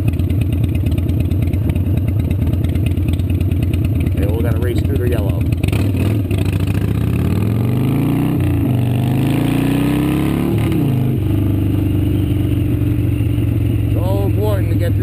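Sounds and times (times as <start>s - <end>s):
motorcycle engine shifting gears: 0.0s - 15.0s.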